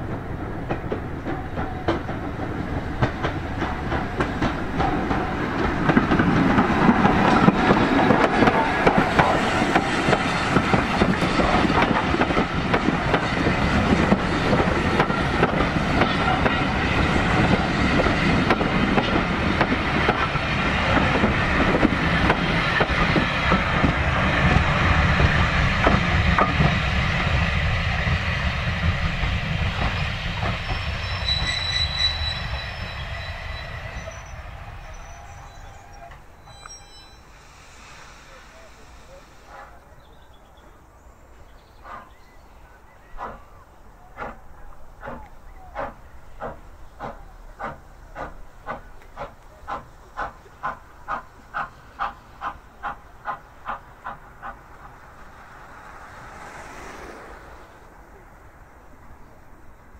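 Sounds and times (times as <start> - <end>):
train wheels rumbling on rails: 0.0 - 39.9, 41.7 - 42.3, 43.0 - 59.9.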